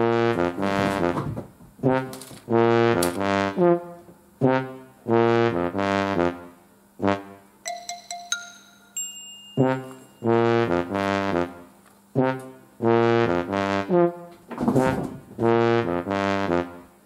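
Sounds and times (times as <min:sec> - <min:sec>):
brass tune: 0:00.0 - 0:08.7, 0:09.6 - 0:17.0.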